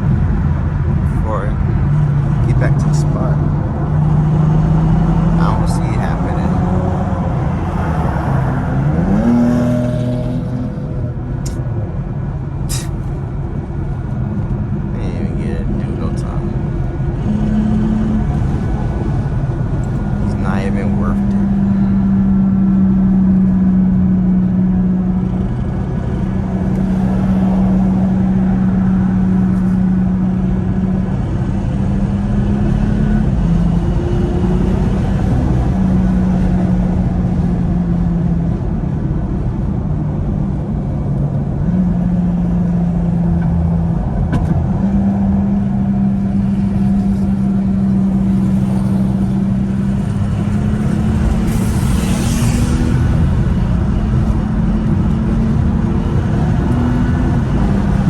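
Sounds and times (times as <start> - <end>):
car engine droning: 0.0 - 58.0
road and tyre rumble: 0.0 - 58.0.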